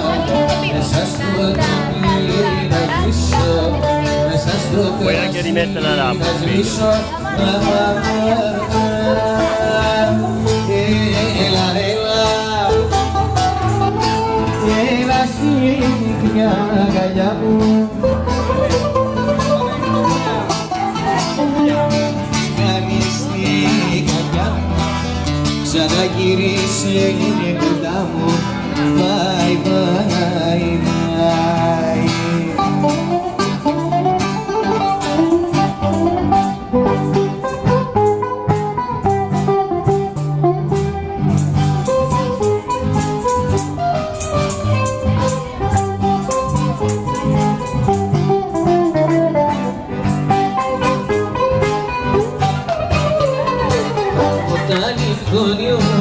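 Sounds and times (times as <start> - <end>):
plucked bouzouki melody: 0.0 - 56.0
strummed acoustic guitar: 0.0 - 56.0.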